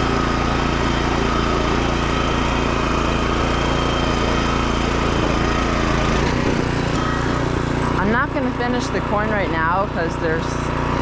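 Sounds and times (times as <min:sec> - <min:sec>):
rototiller engine running: 0:00.0 - 0:11.0.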